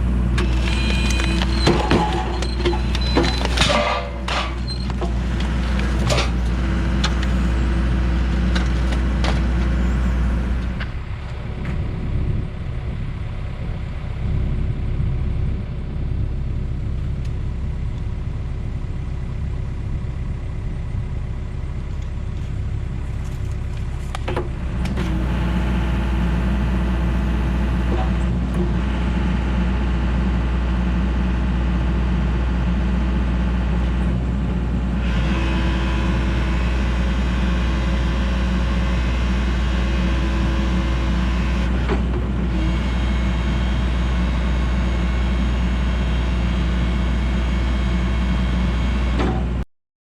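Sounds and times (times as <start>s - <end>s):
heavy equipment engine running: 0.0s - 49.6s.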